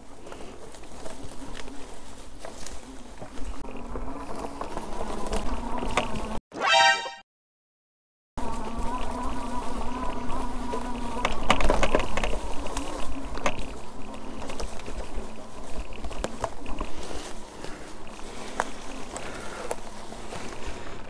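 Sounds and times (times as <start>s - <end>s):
tires crackling over leaves and twigs: 0.0s - 6.4s, 8.4s - 21.0s.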